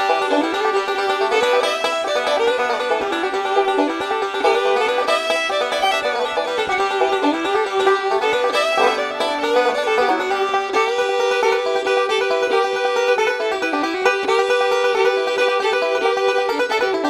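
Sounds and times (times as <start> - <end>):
lively instrumental music: 0.0 - 17.0.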